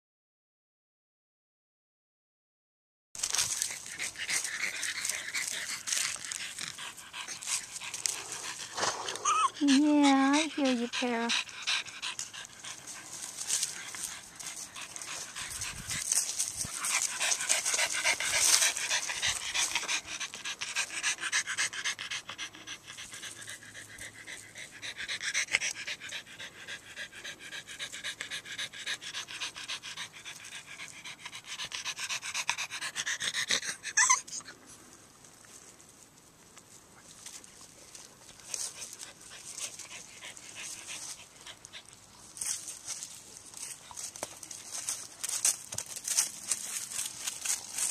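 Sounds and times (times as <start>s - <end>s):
dog panting: 3.2s - 34.6s, 37.8s - 47.9s.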